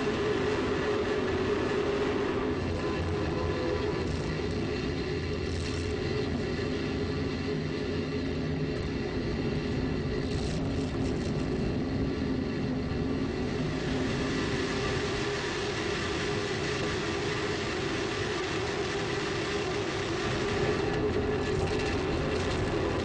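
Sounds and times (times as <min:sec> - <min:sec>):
steady drone with hums: 0:00.0 - 0:23.0.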